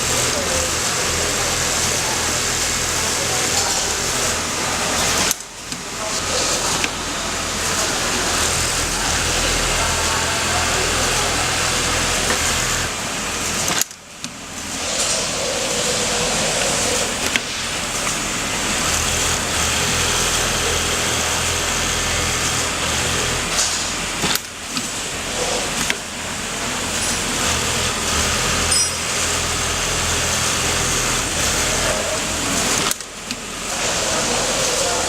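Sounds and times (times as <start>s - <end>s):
sewing machine running: 0.0s - 13.9s, 14.7s - 35.0s.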